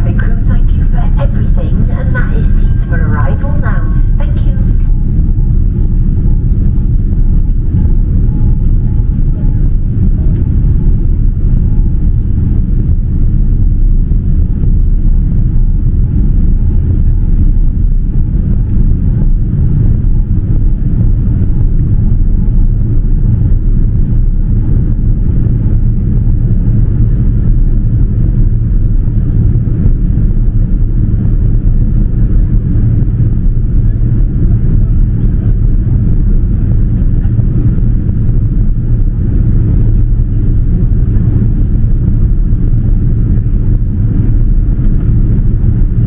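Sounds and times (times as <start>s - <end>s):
airplane cabin engine rumble: 0.0s - 46.0s
faint steady hum: 0.0s - 46.0s.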